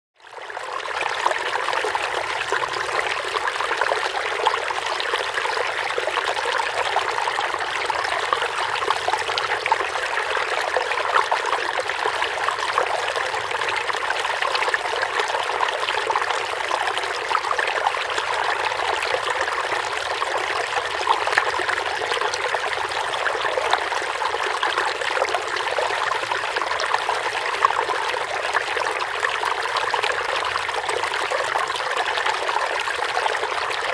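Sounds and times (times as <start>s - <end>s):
stream flowing over stones: 0.3s - 33.9s.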